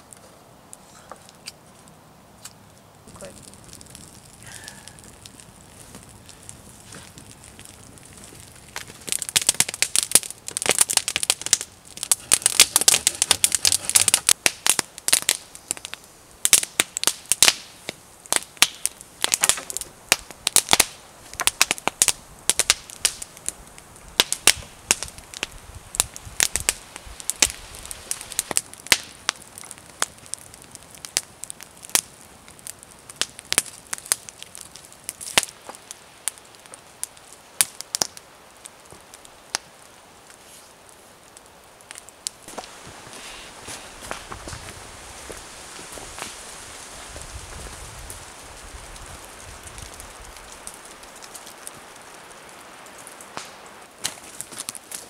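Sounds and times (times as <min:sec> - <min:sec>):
crackling with sharp dry snaps: 0:00.0 - 0:55.0.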